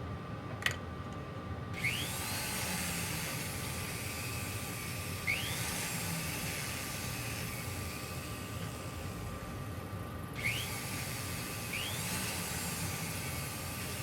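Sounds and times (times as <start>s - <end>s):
polishing wheel whine: 1.8s - 9.8s, 10.4s - 14.0s.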